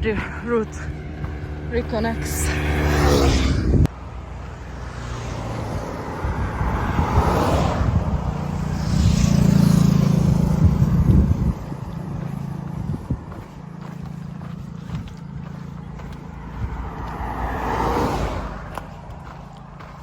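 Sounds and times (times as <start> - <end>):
low engine hum passing: 0.0 - 20.0.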